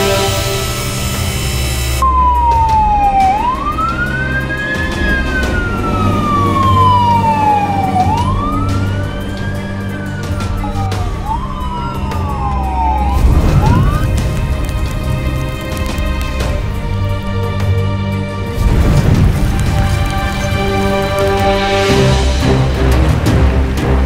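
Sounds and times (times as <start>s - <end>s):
fire engine siren wailing: 1.8s - 24.0s.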